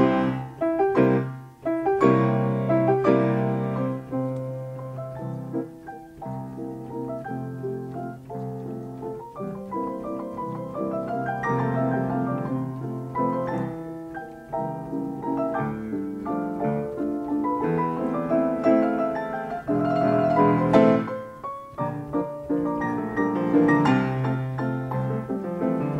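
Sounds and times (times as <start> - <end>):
player piano playing: 0.0 - 25.9.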